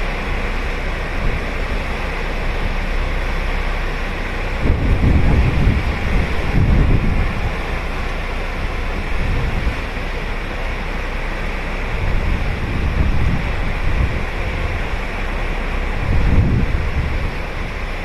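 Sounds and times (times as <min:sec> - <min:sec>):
ocean surf breaking: 0:00.0 - 0:18.0
wind rumble on microphone: 0:00.0 - 0:18.0.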